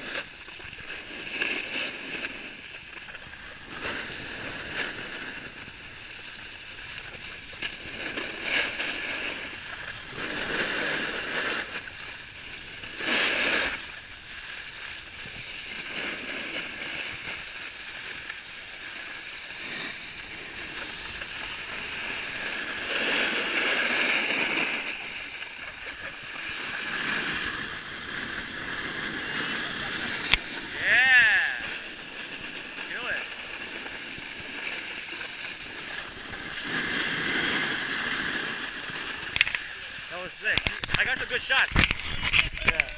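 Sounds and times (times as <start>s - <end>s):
skis scraping on snow: 0.0s - 42.9s.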